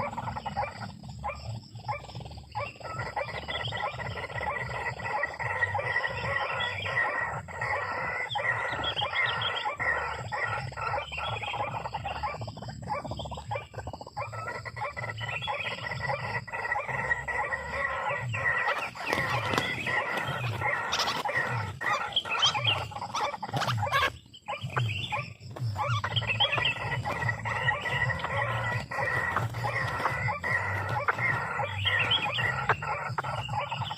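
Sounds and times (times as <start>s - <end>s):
waterhens calling: 0.0s - 33.9s.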